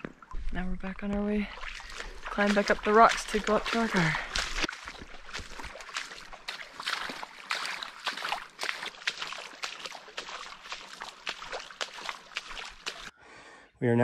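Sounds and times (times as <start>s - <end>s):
footsteps splashing in creek: 0.0s - 13.1s.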